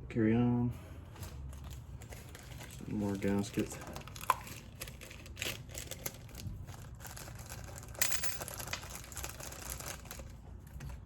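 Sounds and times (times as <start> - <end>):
gaskets crinkling: 1.4 - 11.0.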